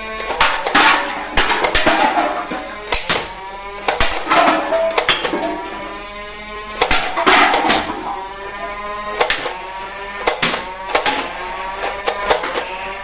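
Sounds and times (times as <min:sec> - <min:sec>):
electronic drone: 0:00.0 - 0:13.0
toy guns firing: 0:00.2 - 0:05.6, 0:06.7 - 0:13.0.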